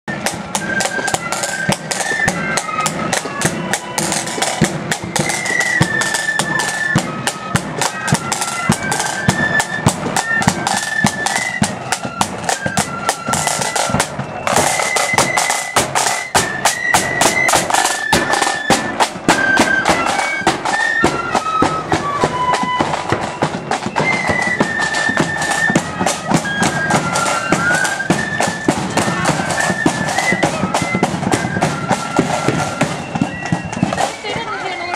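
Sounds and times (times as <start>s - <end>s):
flutes playing march tune: 0.1s - 34.9s
side drum rolls: 0.1s - 34.9s.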